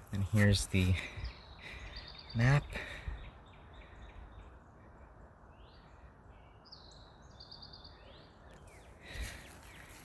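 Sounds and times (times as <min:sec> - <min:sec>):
faint birdsong chirps: 0:00.0 - 0:10.0.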